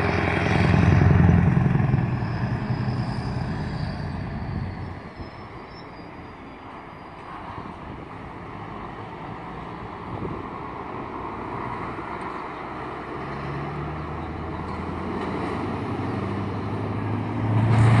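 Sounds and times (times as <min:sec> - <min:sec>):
truck diesel engine driving past: 0:00.0 - 0:18.0.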